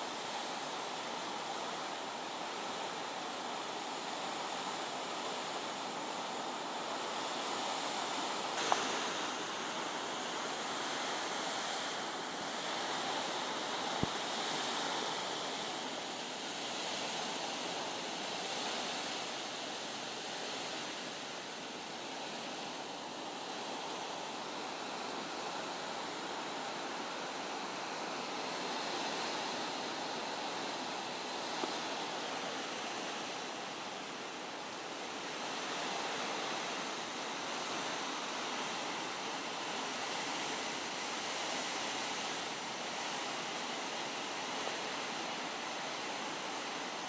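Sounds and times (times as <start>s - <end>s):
heavy rain: 0.0s - 47.0s
wind: 0.0s - 47.0s.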